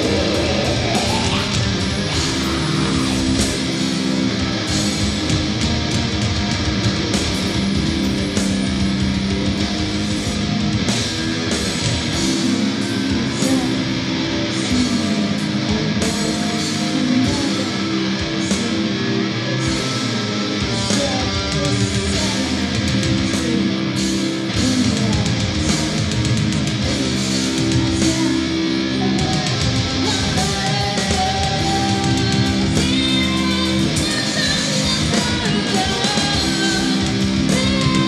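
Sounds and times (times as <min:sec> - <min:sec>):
electric guitar riffing: 0:00.0 - 0:38.0
heavy metal band playing: 0:00.0 - 0:38.0.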